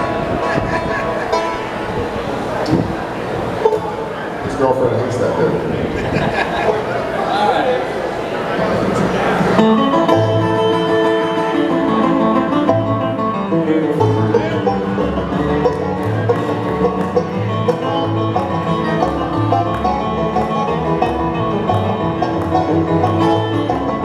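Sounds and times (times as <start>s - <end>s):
low bass notes: 0.0s - 7.1s, 8.8s - 24.0s
picked banjo: 0.0s - 24.0s
string instruments: 0.0s - 24.0s.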